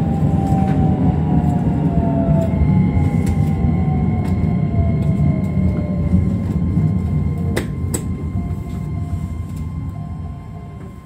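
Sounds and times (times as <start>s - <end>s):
faint falling whine: 0.0s - 11.0s
train wheels rumbling on rail: 0.0s - 11.0s.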